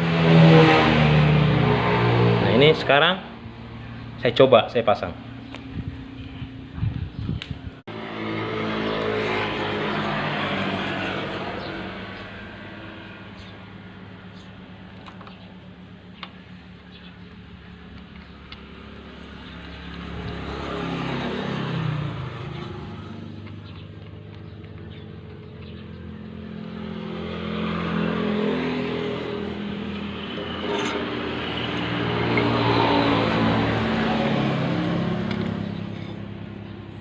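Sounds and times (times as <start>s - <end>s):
vehicle engines passing by: 0.0s - 37.0s.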